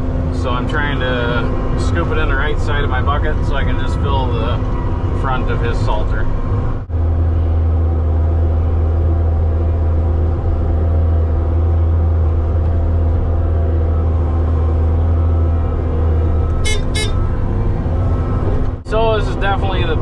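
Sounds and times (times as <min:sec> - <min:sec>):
loader engine humming: 0:00.0 - 0:20.0.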